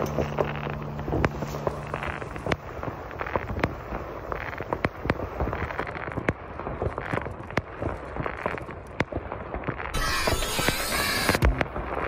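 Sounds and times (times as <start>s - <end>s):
firecrackers cracking: 0.0s - 12.0s.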